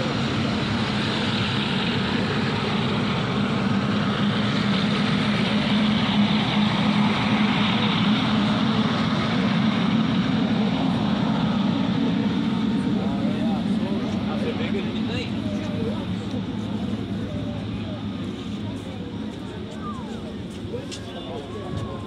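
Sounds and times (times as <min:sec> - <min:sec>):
jet engines taxiing: 0:00.0 - 0:22.0.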